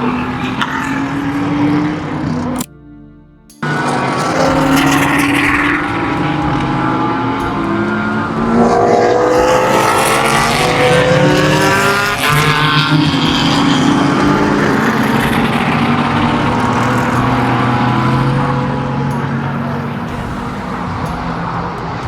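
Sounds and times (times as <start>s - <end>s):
racing car engines accelerating: 0.0s - 22.0s.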